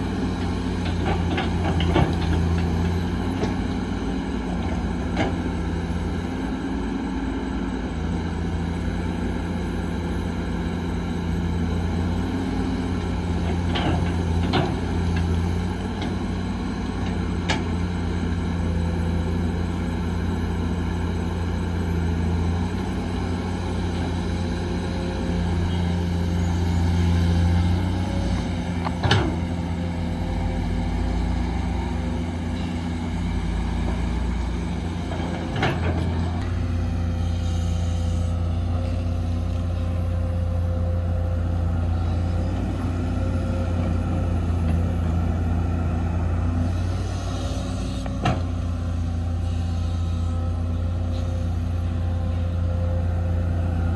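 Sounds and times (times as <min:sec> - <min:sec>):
diesel engines running: 0:00.0 - 0:53.9.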